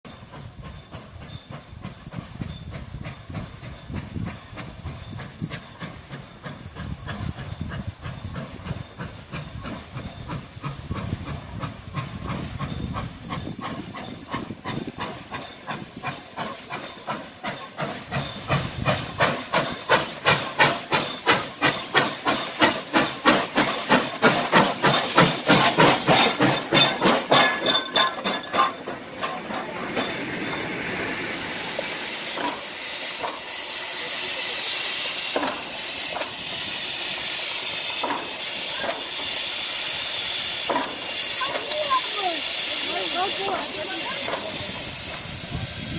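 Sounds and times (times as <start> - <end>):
steam hissing: 0.1 - 45.9
steam locomotive chuffing: 0.1 - 45.9.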